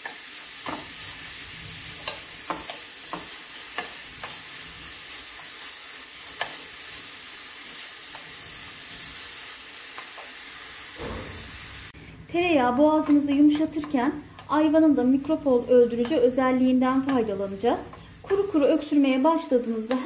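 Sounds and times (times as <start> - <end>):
food sizzling in a pan: 0.0 - 12.0, 12.6 - 20.0.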